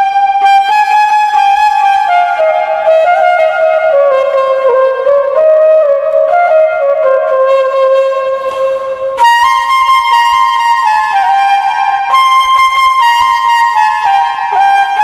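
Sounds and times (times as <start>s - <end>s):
bamboo flute melody: 0.0s - 15.0s.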